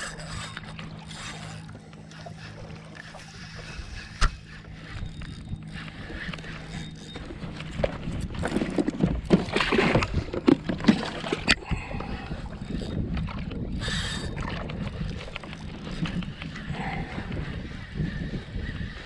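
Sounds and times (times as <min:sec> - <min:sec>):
water sloshing against kayak hull: 0:00.0 - 0:18.2.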